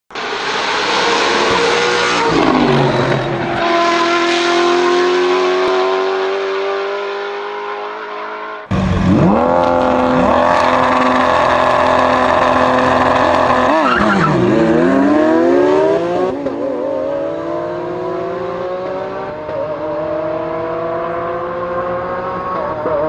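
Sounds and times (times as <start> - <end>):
race car engine passing at high revs: 0.2 - 23.0
sports car engine revving: 0.6 - 23.0.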